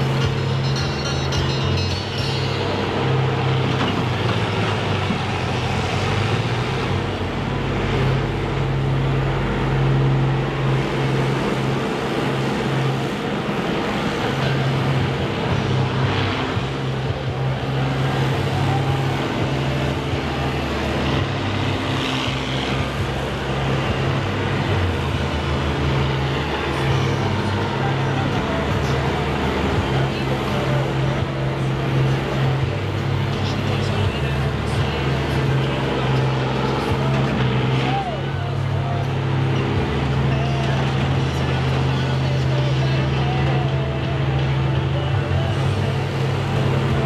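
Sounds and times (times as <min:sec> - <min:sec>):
combine harvester engines droning: 0:00.0 - 0:47.0.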